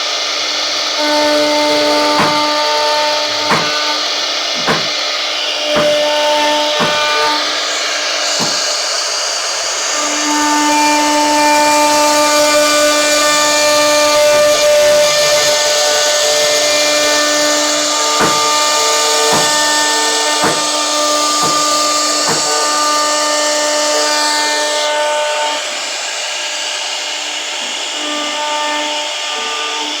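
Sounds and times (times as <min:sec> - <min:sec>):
router spindle whine cutting wood: 0:00.0 - 0:30.0.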